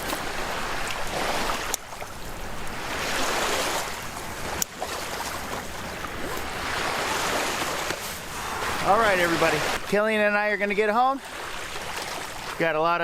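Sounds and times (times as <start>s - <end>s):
surf washing on a beach: 0.0s - 13.0s.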